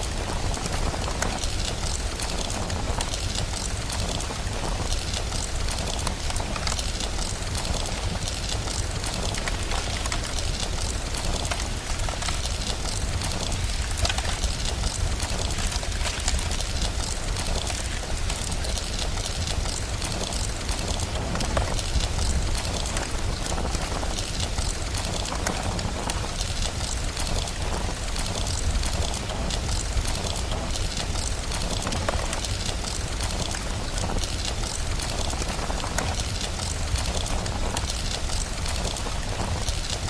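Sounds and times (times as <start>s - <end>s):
fire crackling: 0.0s - 40.0s
steady rain: 0.0s - 40.0s.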